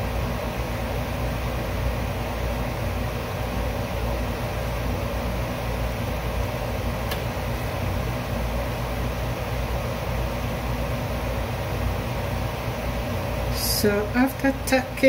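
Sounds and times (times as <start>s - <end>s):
machinery hum and hiss: 0.0s - 15.0s.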